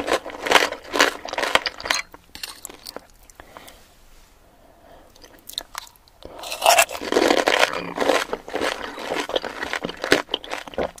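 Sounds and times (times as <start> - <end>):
crunching and chewing: 0.0 - 3.4, 5.2 - 11.0.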